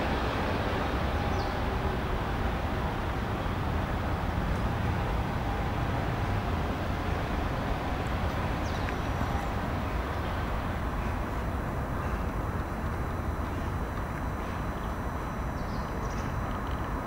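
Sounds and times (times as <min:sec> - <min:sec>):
outdoor background noise: 0:00.0 - 0:17.0
utility vehicle engine running: 0:00.0 - 0:17.0.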